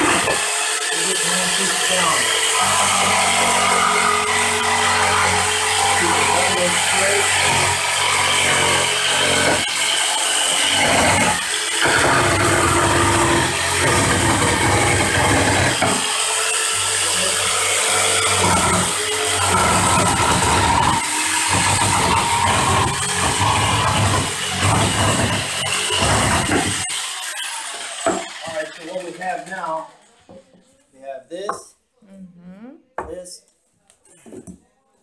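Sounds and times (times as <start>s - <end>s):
electric jigsaw cutting wood: 0.0s - 29.8s.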